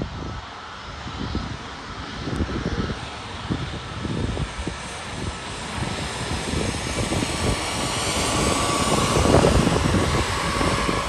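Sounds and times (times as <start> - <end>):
jet engines whining: 0.0 - 11.0
wind rumbling on microphone: 0.0 - 11.0.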